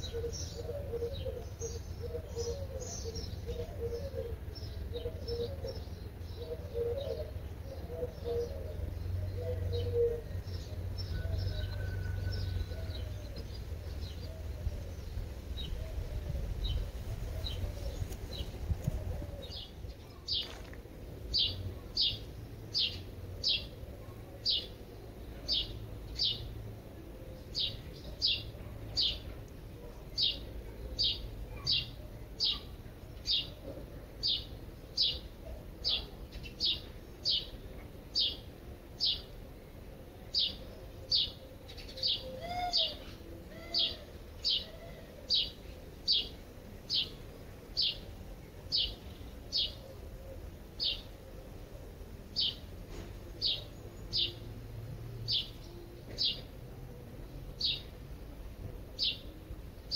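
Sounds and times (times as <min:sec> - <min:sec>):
low outdoor rumble: 0:00.0 - 0:59.9.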